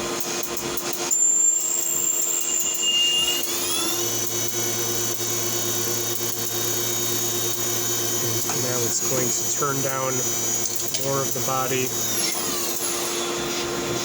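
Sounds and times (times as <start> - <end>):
high-pitched machine whine: 0.0 - 14.0
motor whine rising in pitch: 1.1 - 14.0.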